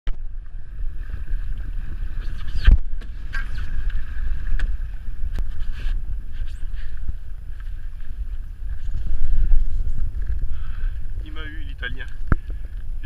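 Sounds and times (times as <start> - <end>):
water rushing along hull: 0.1 - 13.0
wind rumbling on microphone: 0.1 - 13.0.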